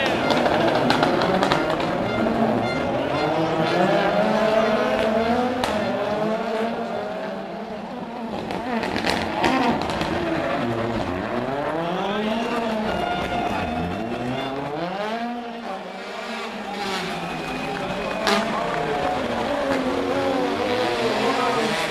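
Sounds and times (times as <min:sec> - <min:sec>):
rally car engines revving: 0:00.0 - 0:21.9.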